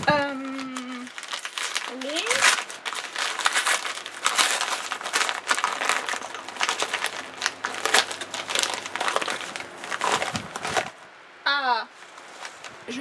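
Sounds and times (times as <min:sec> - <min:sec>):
plastic mailer crinkling: 0:00.0 - 0:11.0, 0:11.9 - 0:12.8.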